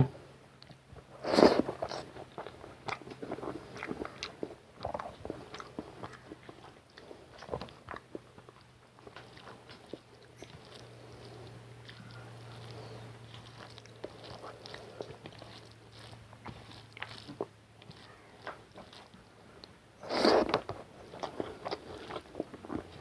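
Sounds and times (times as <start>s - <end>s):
person chewing food: 0.6s - 23.0s.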